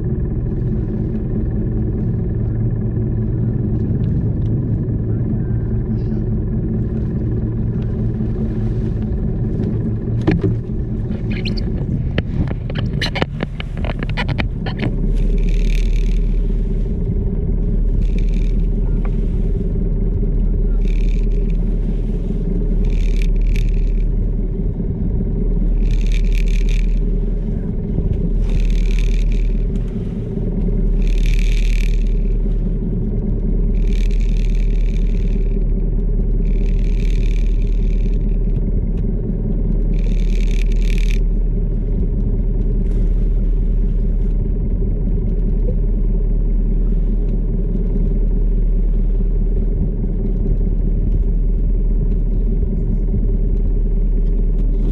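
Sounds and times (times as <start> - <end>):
boat engine droning: 0.0 - 54.9.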